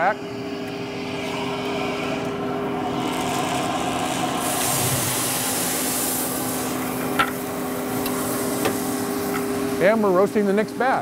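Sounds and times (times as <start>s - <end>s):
blower humming: 0.0s - 11.0s.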